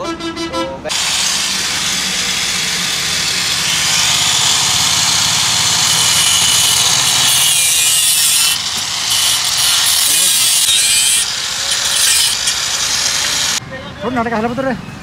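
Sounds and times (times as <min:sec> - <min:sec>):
angle grinder cutting metal: 0:00.9 - 0:13.6.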